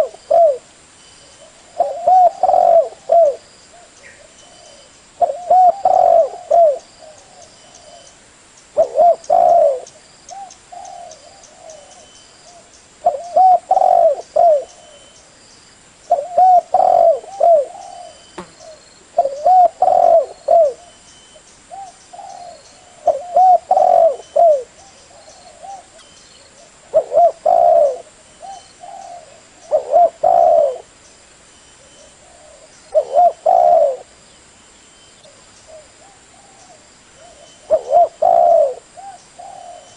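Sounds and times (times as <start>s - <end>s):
dove cooing: 0.0s - 0.7s, 1.4s - 8.1s, 8.8s - 15.2s, 16.1s - 21.0s, 21.7s - 30.9s, 31.8s - 34.1s, 35.3s - 39.9s.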